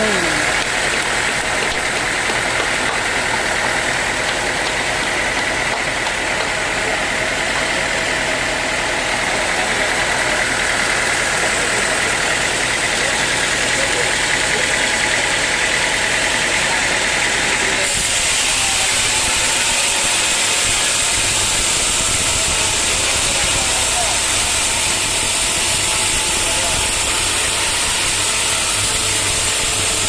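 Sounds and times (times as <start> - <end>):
high mechanical whine: 0.0 - 30.0
sawmill machinery drone: 0.0 - 30.0.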